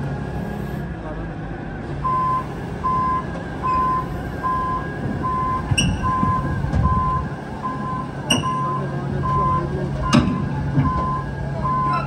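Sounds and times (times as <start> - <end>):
diesel engine running: 0.0 - 12.0
backup alarm beeping: 2.0 - 12.0.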